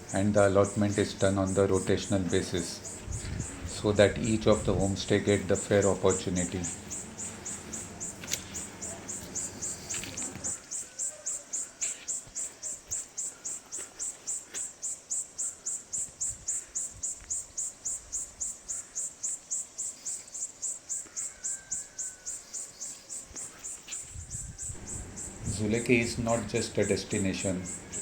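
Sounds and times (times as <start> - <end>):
insect chirping: 0.0 - 28.0.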